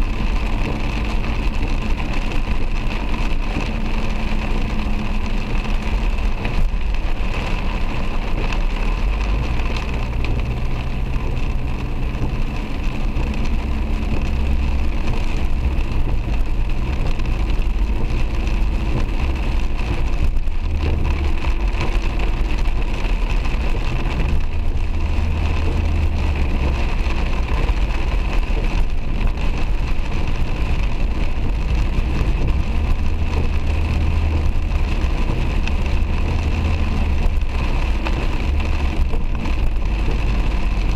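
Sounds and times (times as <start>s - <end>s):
heavy rain on car: 0.0s - 40.9s
low engine hum: 0.0s - 40.9s.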